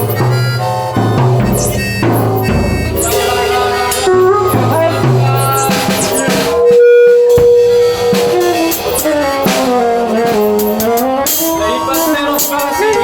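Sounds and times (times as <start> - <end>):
sharp drum hits: 0.0 - 10.6
live band music: 0.0 - 13.0.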